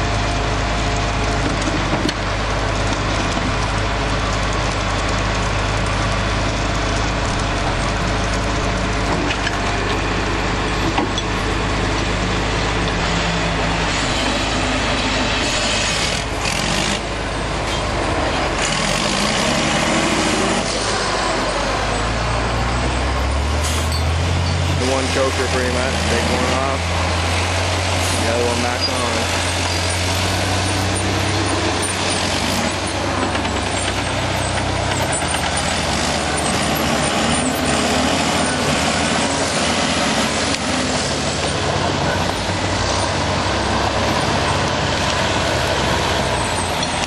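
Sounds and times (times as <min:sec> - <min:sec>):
heavy diesel machinery engine drone: 0:00.0 - 0:47.0.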